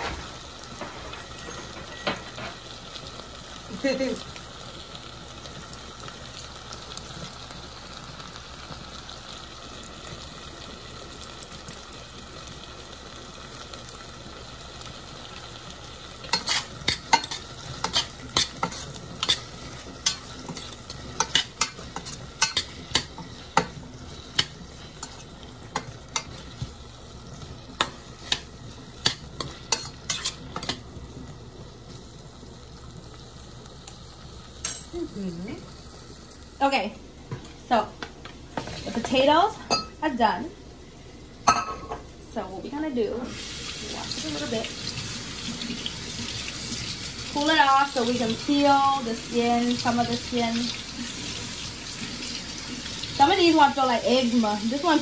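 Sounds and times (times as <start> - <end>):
potatoes and onions sizzling: 0.0 - 55.0.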